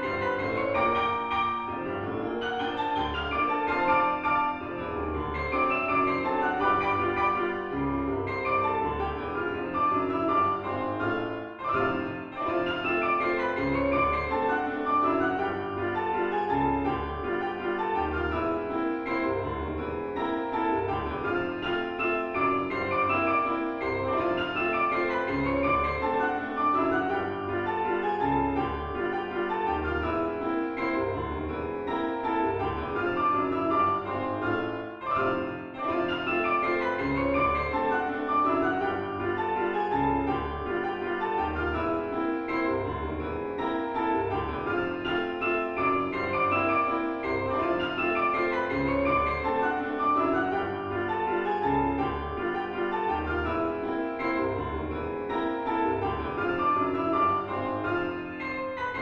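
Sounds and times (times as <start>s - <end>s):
ragtime piano duet: 0.0s - 59.0s.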